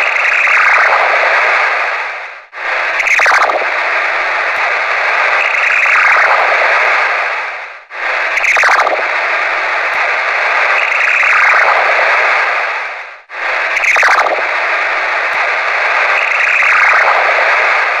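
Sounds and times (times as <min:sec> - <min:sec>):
radio band noise: 0:00.0 - 0:18.0.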